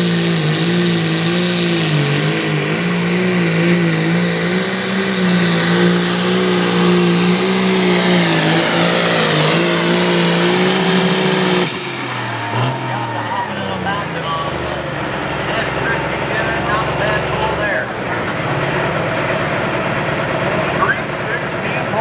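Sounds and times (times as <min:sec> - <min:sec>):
diesel tractor engine at full throttle: 0:00.0 - 0:22.0.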